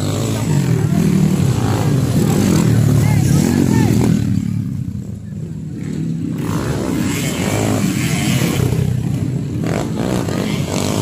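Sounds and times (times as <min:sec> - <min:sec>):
dirt bike engines running: 0:00.0 - 0:11.0.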